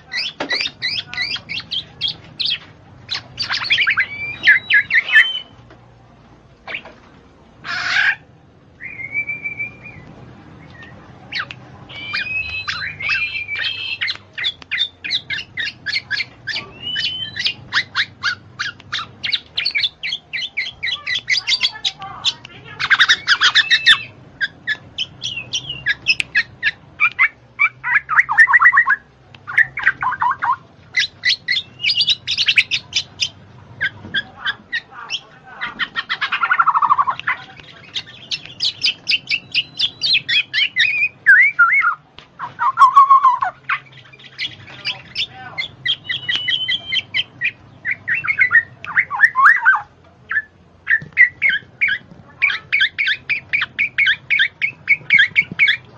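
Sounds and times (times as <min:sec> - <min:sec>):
bird chirping and warbling: 0:00.0 - 0:05.6, 0:07.6 - 0:55.8.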